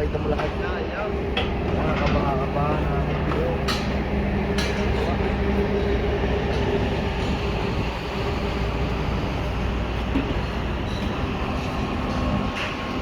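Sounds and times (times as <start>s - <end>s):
machinery rumbling: 0.0s - 13.0s.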